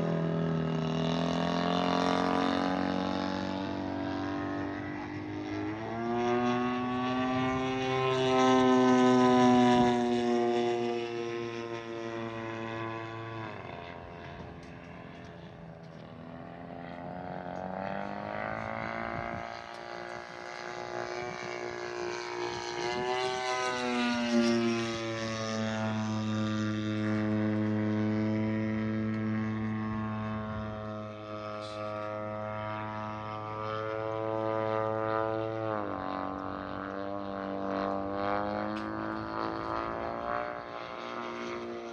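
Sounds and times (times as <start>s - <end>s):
model airplane engine: 0.0s - 41.9s.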